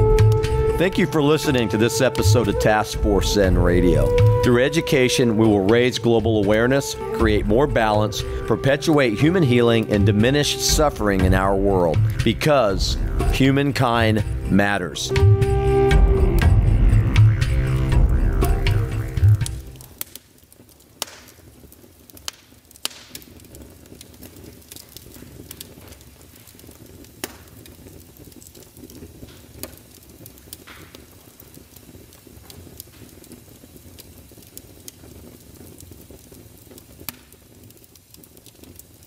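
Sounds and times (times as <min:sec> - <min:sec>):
low crackling noise: 0:00.0 - 0:39.0.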